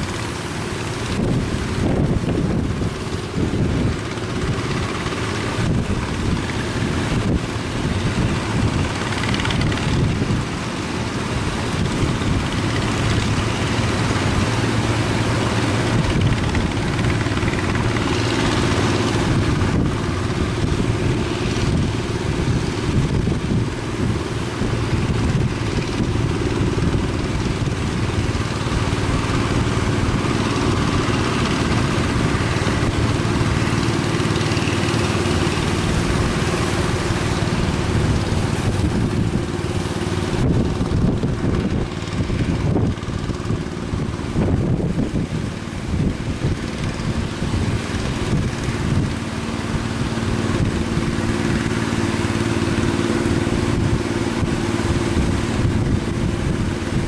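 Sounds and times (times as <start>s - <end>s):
engine running steadily: 0.0s - 57.0s
surf rushing: 0.0s - 57.0s
wind: 0.0s - 57.0s.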